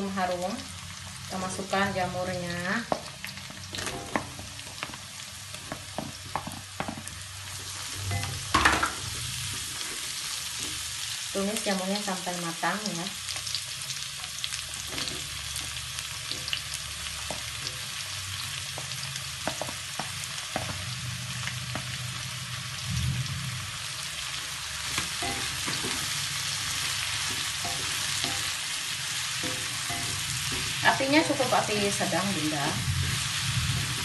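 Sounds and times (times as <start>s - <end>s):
mushrooms sizzling in oil: 0.0s - 34.0s.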